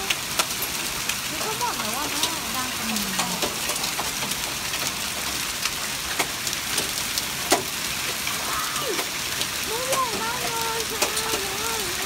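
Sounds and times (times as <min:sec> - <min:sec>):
hail hissing: 0:00.0 - 0:12.0
hailstones clicking on concrete: 0:00.0 - 0:12.0.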